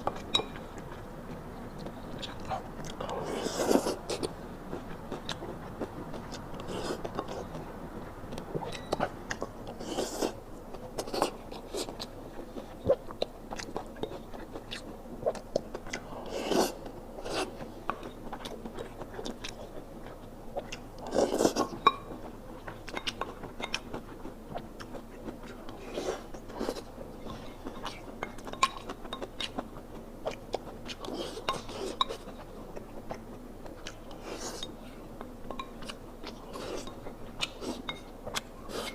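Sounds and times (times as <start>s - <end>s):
person chewing food: 0.0s - 7.7s, 8.3s - 38.9s.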